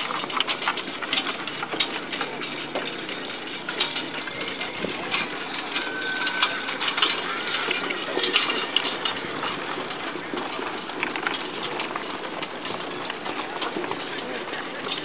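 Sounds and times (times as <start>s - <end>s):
cart and harness rattling: 0.0s - 15.0s.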